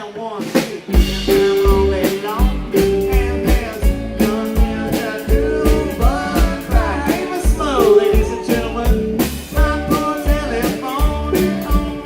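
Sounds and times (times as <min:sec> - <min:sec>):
live rock band playing: 0:00.4 - 0:12.0
kick drum beat: 0:01.0 - 0:11.3.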